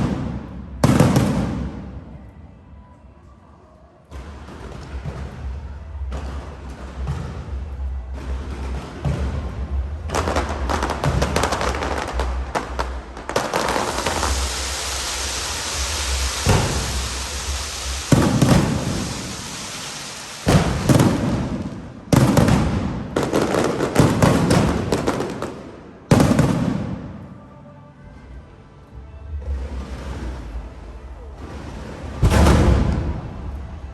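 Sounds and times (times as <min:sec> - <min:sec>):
fireworks bangs: 0:00.0 - 0:02.4, 0:04.1 - 0:27.5, 0:31.3 - 0:33.9
fireworks crackling: 0:00.0 - 0:02.5, 0:04.2 - 0:27.5, 0:29.5 - 0:33.9
music: 0:00.0 - 0:33.9.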